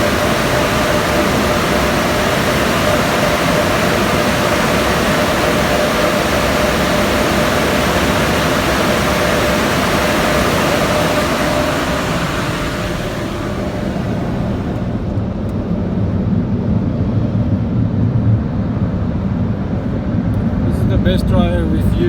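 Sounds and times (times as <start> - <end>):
air dryers rushing: 0.0 - 16.2, 20.4 - 22.0
steady whine: 0.0 - 17.6, 19.8 - 22.0.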